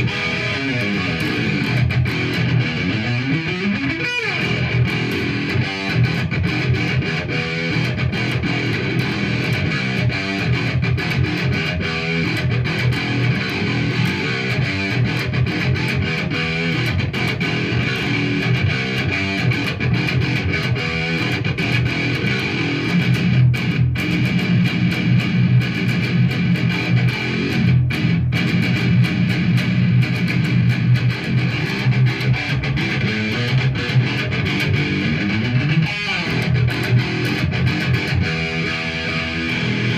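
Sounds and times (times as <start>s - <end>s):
electric guitar rapid picking: 0.0s - 39.9s.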